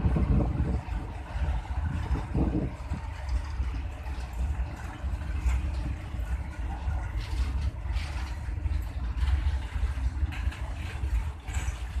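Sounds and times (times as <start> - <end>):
freight train rumbling past: 0.0 - 12.0
wheels clattering on rails: 0.0 - 12.0.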